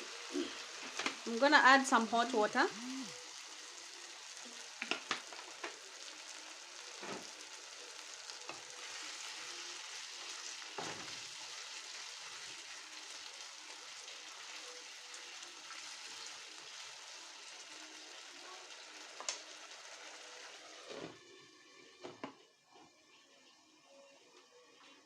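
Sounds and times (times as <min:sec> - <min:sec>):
sauce sizzling in a pan: 0:00.0 - 0:22.0.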